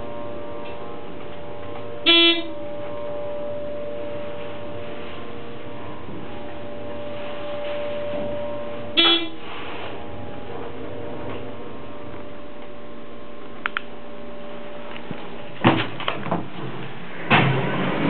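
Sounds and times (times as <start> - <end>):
buzzy electronic chime: 0.0 - 15.6
faint steady tone: 0.0 - 15.6
elevator hum: 0.0 - 18.0.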